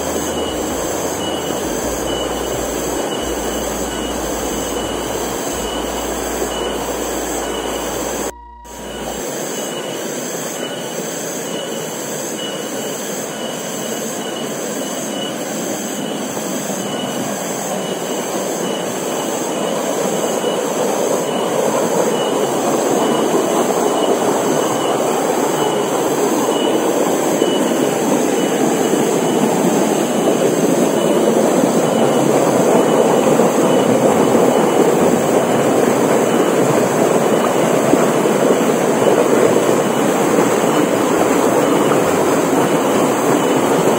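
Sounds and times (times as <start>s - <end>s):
stream rushing over rocks: 0.0s - 11.3s, 15.5s - 43.9s.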